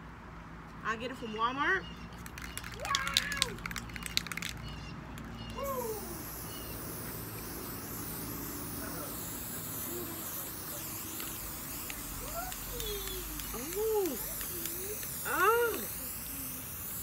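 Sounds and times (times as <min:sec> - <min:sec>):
spray paint can hissing: 0:02.2 - 0:17.0.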